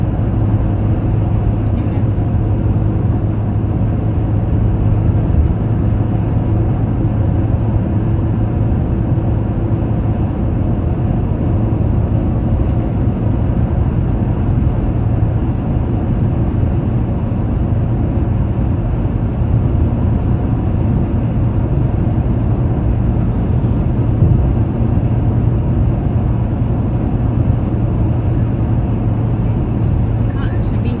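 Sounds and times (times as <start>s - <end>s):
car engine and tyre road noise: 0.0s - 31.0s.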